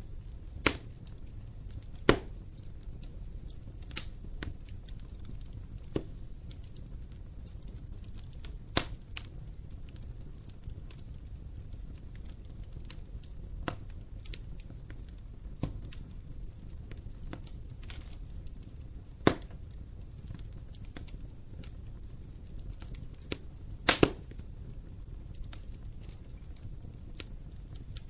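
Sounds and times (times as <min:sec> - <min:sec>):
wood fire crackling: 0:00.0 - 0:28.0
sharp pops of burning wood: 0:00.1 - 0:28.0.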